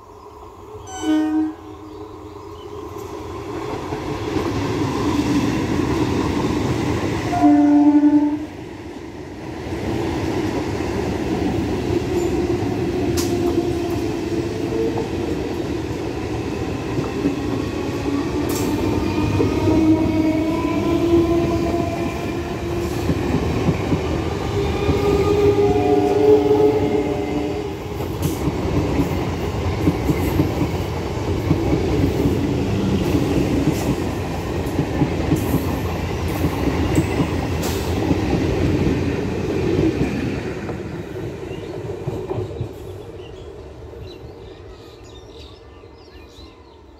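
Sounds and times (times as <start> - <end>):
train wheels rumbling on rails: 1.9 - 44.6.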